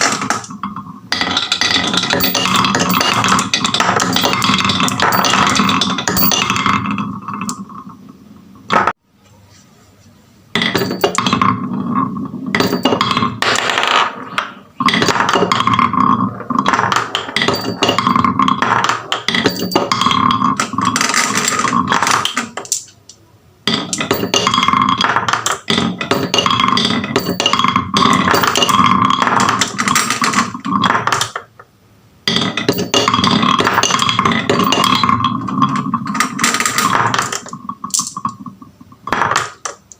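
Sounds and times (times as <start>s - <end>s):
marbles rolling on wooden tracks: 0.0s - 9.0s, 10.6s - 23.0s, 23.7s - 39.9s.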